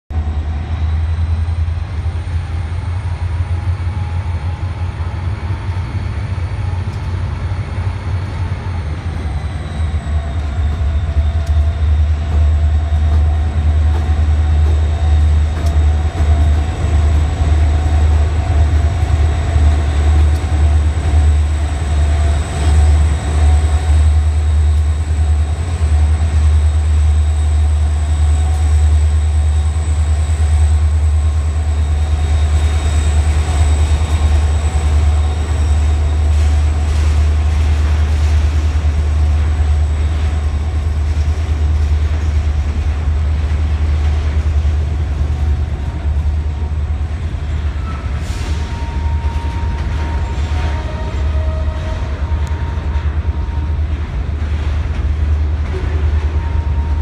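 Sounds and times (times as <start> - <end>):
engine whine: 0.1 - 57.0
locomotives rumbling past: 0.2 - 57.0.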